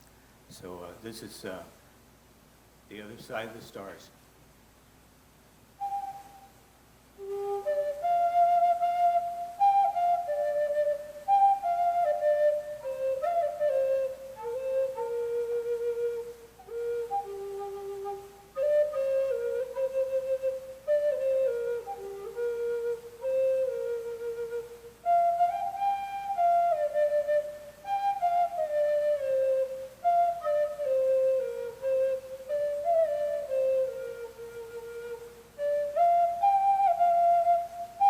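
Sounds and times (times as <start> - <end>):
flute playing slow melody: 5.8 - 38.0.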